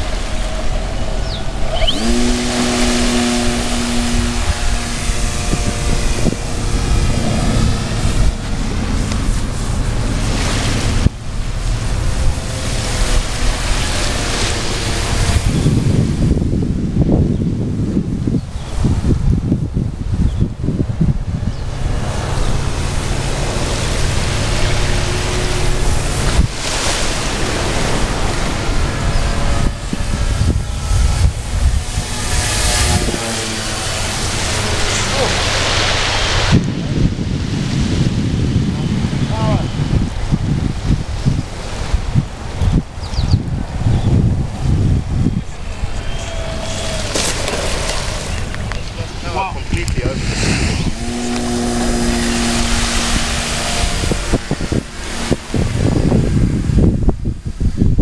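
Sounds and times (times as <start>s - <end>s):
two-note motor hum: 0.0s - 18.5s, 19.5s - 37.2s, 42.6s - 57.4s
wind buffeting microphone: 0.0s - 58.0s.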